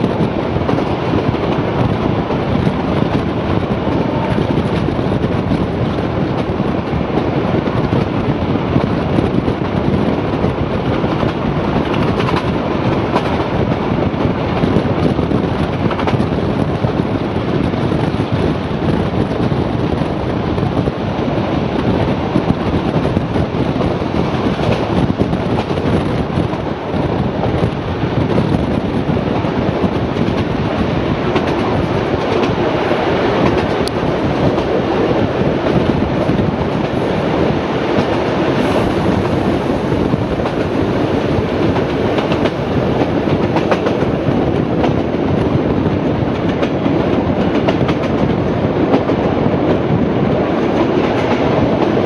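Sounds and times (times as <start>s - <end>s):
rushing air: 0.0s - 52.0s
wheels rumbling on rail: 0.0s - 52.0s.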